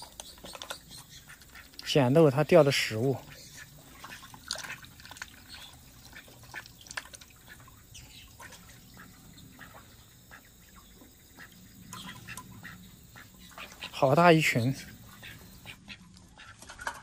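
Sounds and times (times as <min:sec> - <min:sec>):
water dripping and splashing: 0:00.0 - 0:17.0.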